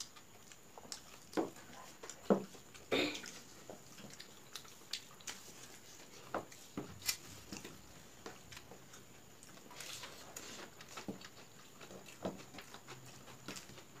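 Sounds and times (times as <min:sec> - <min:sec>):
wet chewing and squishing: 0:00.0 - 0:14.0.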